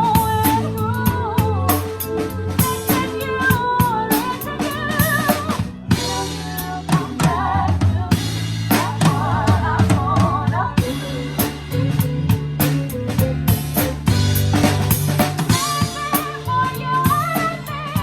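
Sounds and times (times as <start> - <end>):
bass line: 0.0 - 18.0
drum kit beat: 0.0 - 18.0.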